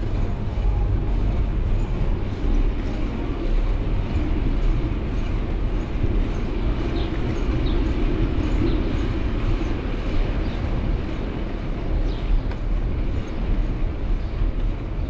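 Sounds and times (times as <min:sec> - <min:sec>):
vehicle running low rumble: 0:00.0 - 0:15.0.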